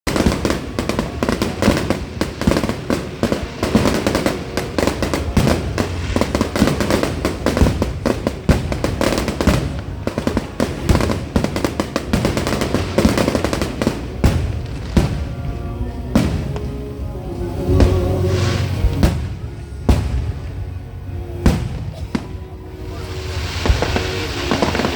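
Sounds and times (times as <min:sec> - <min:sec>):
fireworks bangs and crackles: 0:00.0 - 0:24.9
music playing: 0:00.1 - 0:24.9.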